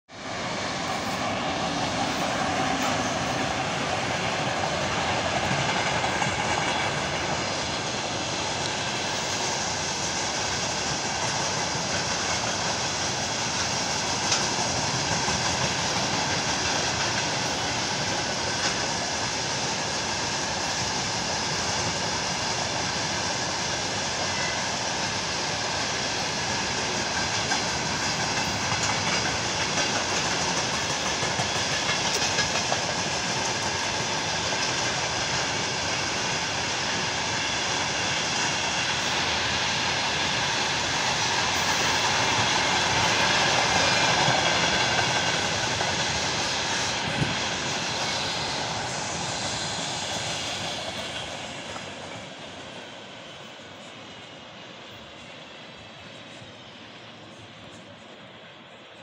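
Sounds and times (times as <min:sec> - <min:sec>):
train wheels rushing on rails: 0:00.1 - 0:59.0.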